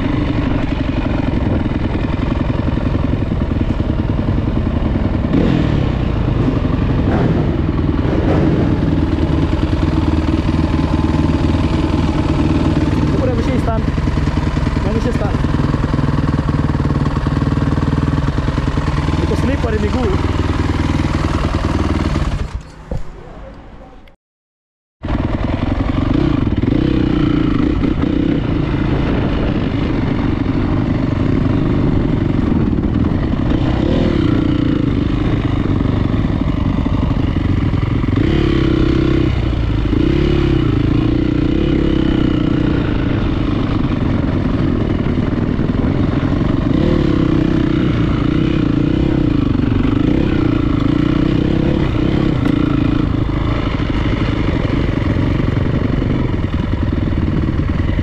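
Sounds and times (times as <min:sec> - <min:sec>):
motocross bike engine revving: 0:00.0 - 0:22.7, 0:25.0 - 0:58.0.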